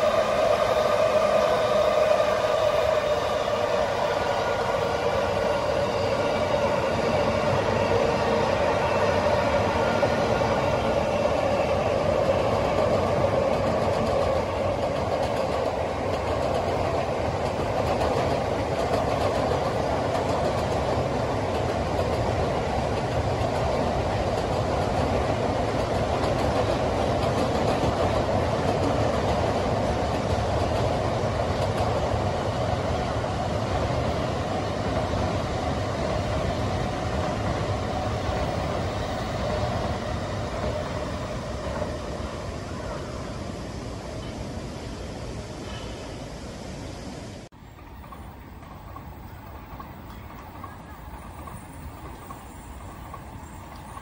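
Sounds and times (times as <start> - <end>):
electric train wheels rumbling on rails: 0.0 - 54.0.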